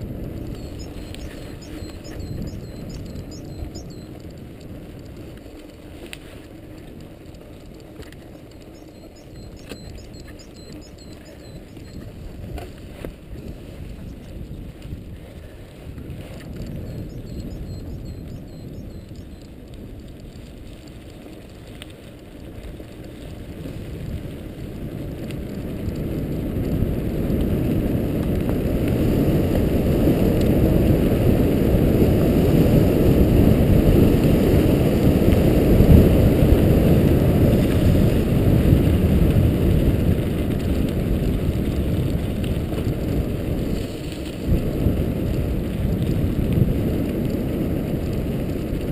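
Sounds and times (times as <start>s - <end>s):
wind rushing on microphone: 0.0s - 21.6s, 22.3s - 48.9s
bike tyres rumbling over gravel: 0.0s - 48.9s.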